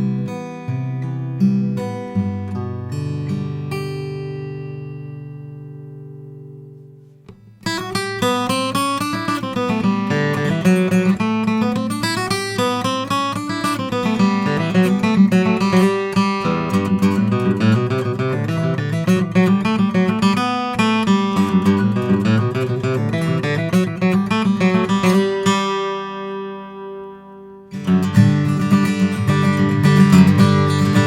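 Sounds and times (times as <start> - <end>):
acoustic guitar chord ringing: 0.0 - 31.0
picked acoustic guitar passage: 0.0 - 31.0.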